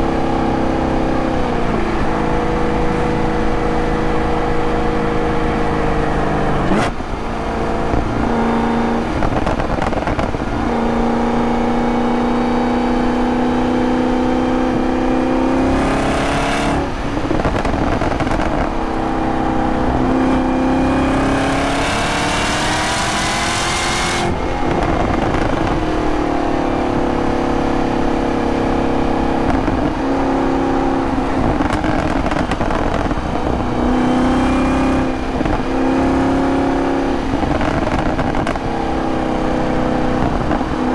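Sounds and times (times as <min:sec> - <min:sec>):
car engine revving through gears: 0:00.0 - 0:40.9.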